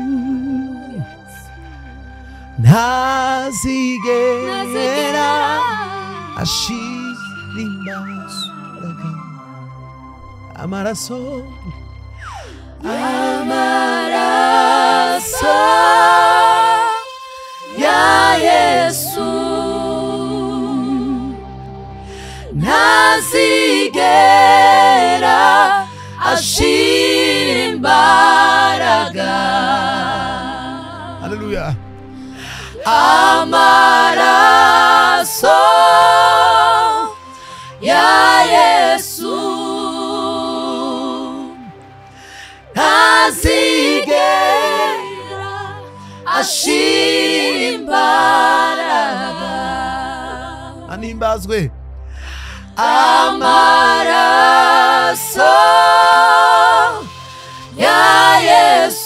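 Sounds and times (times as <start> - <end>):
women singing in harmony: 0.0 - 1.5, 2.7 - 9.0, 12.4 - 31.4, 32.1 - 50.9, 52.6 - 59.0.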